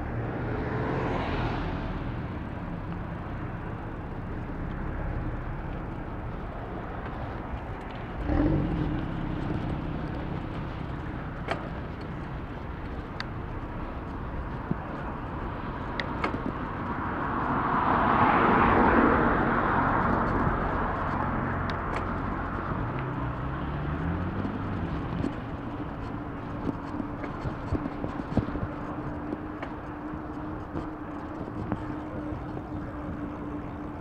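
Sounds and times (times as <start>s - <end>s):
bicycle riding rumble: 0.0s - 34.0s
engine speeding up: 0.0s - 34.0s
vehicle passing close: 4.8s - 34.0s.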